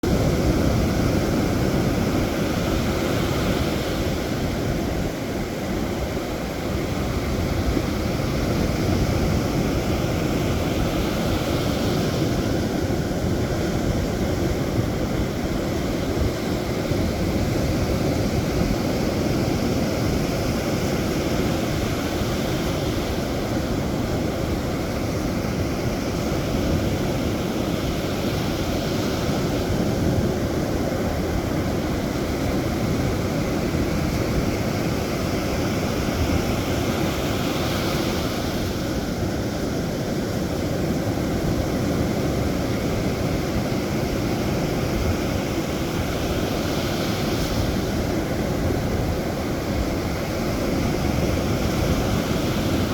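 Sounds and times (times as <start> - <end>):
sea surf washing in: 0.0 - 52.9
wind on microphone: 0.0 - 52.9.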